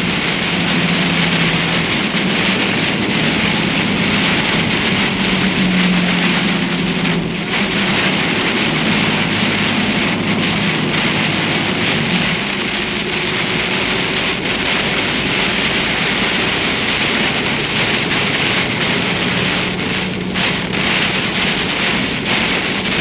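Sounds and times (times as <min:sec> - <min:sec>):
heavy rain on vehicle: 0:00.0 - 0:23.0.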